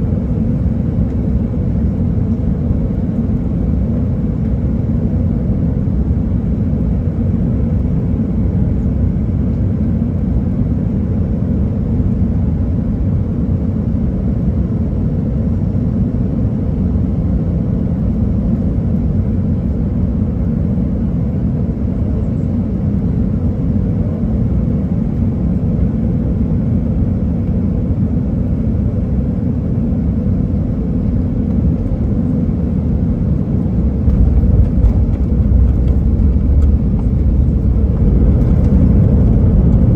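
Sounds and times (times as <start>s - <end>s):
rumble of engines and wheels: 0.0s - 39.9s.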